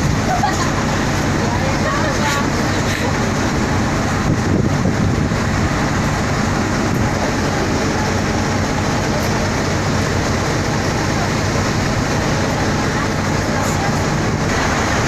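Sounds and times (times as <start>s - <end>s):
boat engine humming: 0.0s - 15.0s
rushing water noise: 0.0s - 15.0s.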